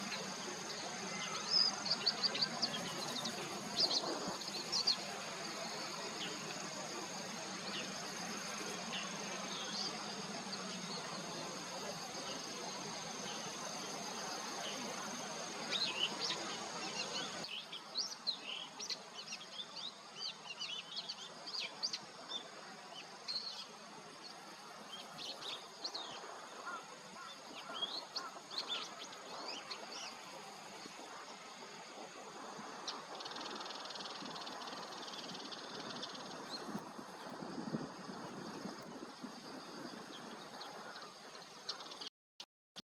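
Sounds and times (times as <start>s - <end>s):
high insect-like drone: 0.0s - 17.5s, 21.6s - 42.1s
low background noise: 0.0s - 42.0s.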